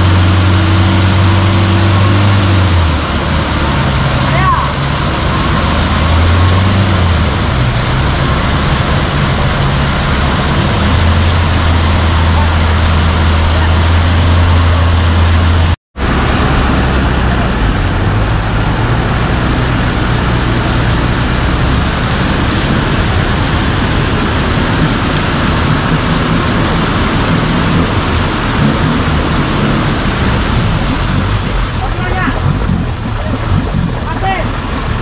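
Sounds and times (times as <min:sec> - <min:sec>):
vehicle engine under heavy load: 0:00.0 - 0:35.0.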